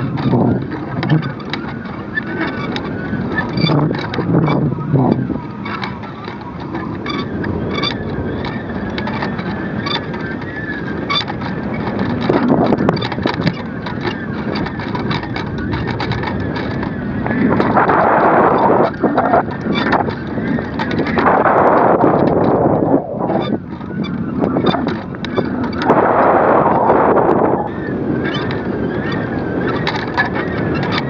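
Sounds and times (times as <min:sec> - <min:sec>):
clicks and rattles from rig: 0:00.0 - 0:27.5, 0:28.2 - 0:31.0
wind buffeting microphone: 0:00.0 - 0:31.0.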